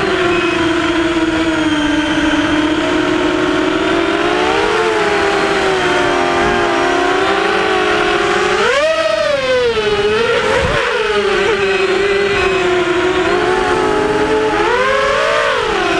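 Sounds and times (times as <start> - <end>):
quadcopter motors whining: 0.0 - 15.9.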